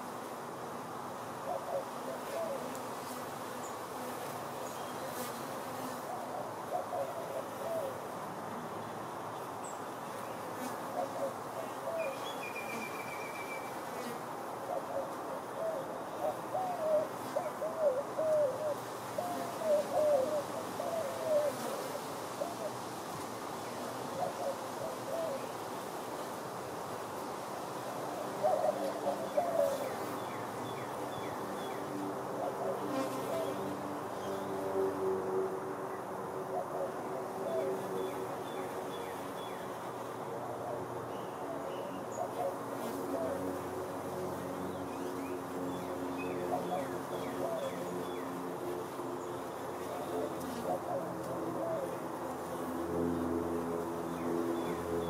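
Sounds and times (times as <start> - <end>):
bees buzzing close by: 0.0 - 15.3, 25.4 - 55.0
steady hum of bees: 0.0 - 55.0.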